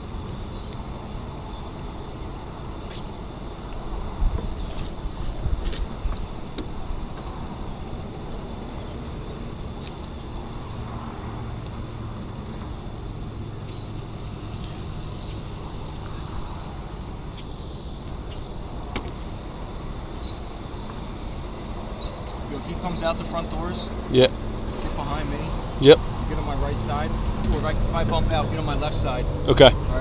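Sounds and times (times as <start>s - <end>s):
high faint chirp: 0.0s - 29.6s.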